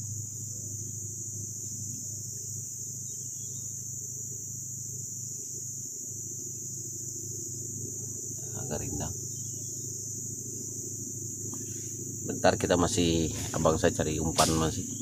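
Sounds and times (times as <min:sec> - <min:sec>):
insects chorus in trees: 0:00.0 - 0:15.0
low steady rumble: 0:00.0 - 0:15.0.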